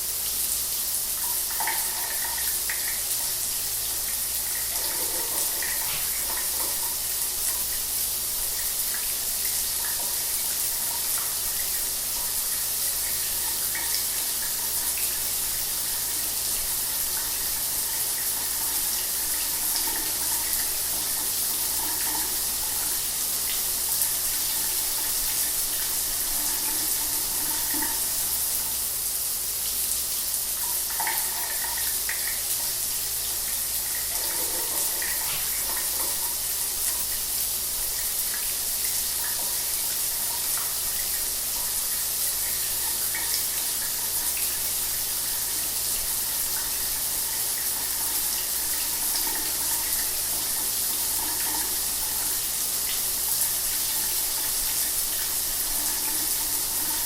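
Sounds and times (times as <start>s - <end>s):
shower water running: 0.0s - 57.0s.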